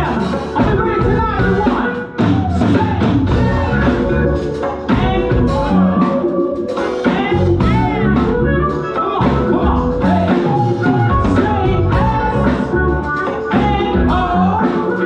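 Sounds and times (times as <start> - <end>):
bass and drums beat: 0.0 - 15.0.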